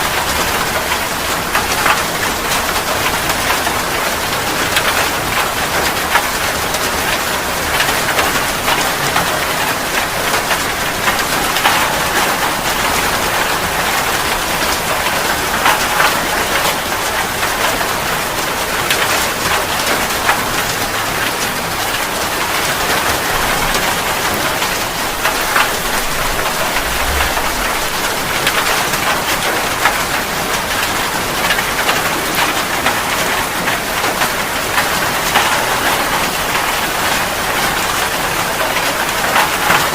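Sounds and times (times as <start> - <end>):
steady rain hiss: 0.0 - 39.9
raindrops tapping: 0.1 - 39.9.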